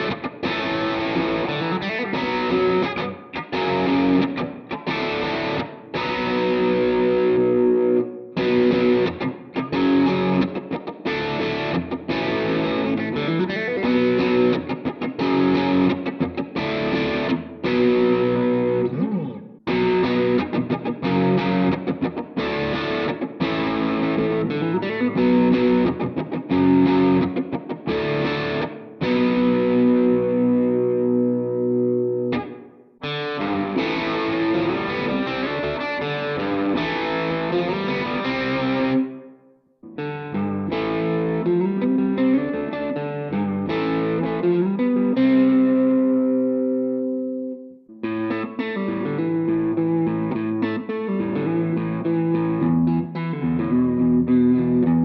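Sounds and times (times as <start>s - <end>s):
distorted electric guitar chords: 0.0s - 39.3s, 39.9s - 55.0s.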